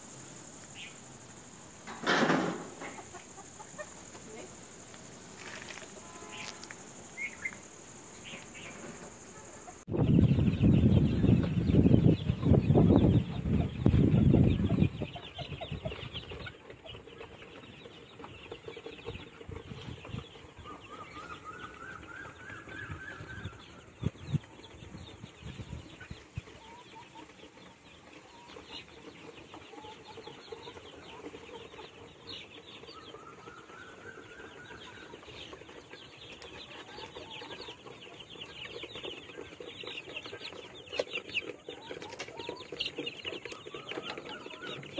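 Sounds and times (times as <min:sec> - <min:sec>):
chicks peeping and cheeping: 0:00.0 - 0:44.9.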